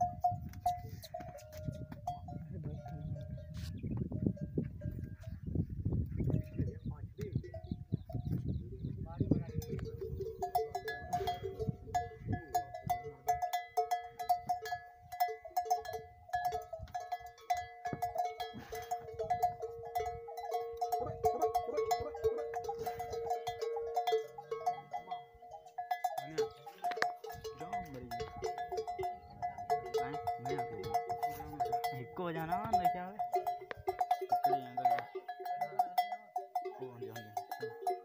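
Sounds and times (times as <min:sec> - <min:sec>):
camel bells clanking: 0:00.0 - 0:38.0.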